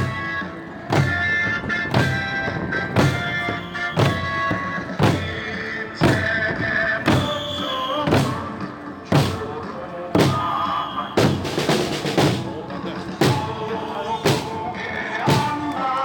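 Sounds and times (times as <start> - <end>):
heavy drum beat: 0.0 - 7.4, 8.1 - 15.8
held melody line: 0.0 - 16.0.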